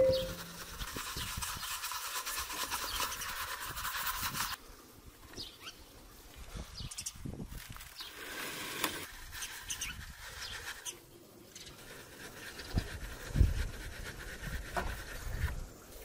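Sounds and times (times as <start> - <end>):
flour shaken through a sieve: 0.0 - 4.6, 7.5 - 16.0.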